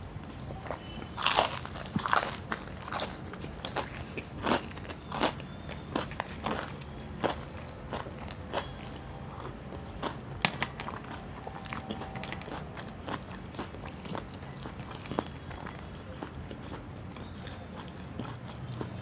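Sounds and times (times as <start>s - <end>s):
person chewing crunchy food: 0.2s - 19.0s
crunchy clicks and wet mouth sounds: 1.2s - 19.0s.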